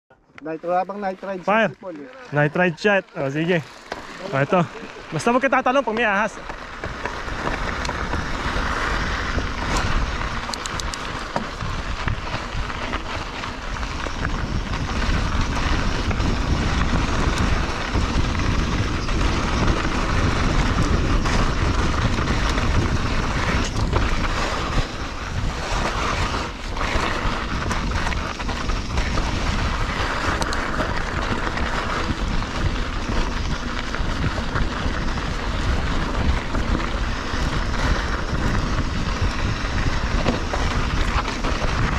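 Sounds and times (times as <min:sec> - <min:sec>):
tyres rolling over gravel: 0:00.4 - 0:41.9
wind on microphone: 0:03.5 - 0:41.9
bike knocks and rattles: 0:03.7 - 0:41.9.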